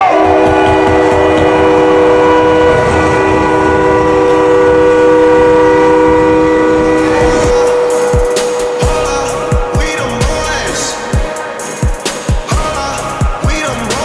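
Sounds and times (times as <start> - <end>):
goal horn blasting: 0.0 - 14.0.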